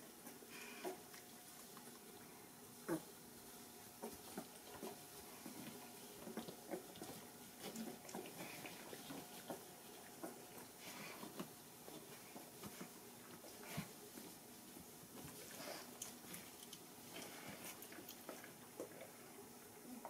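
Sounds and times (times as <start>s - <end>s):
puppies shuffling and nuzzling: 0.0s - 20.0s.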